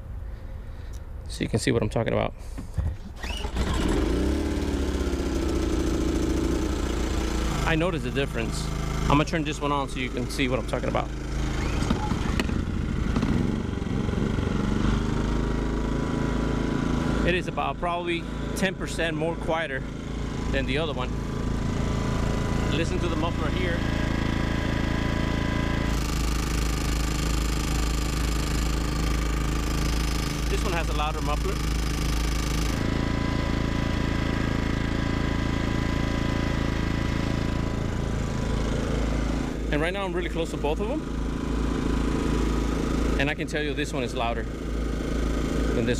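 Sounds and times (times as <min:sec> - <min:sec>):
generator running: 0:02.5 - 0:45.9
second generator rising in pitch: 0:03.2 - 0:43.2.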